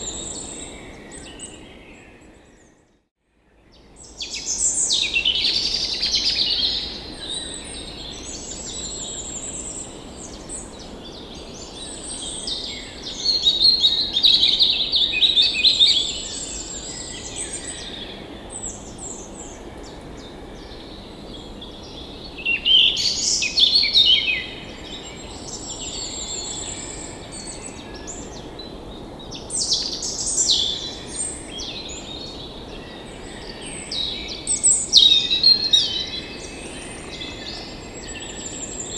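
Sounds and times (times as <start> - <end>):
songbirds chirping and trilling: 3.7 - 38.9.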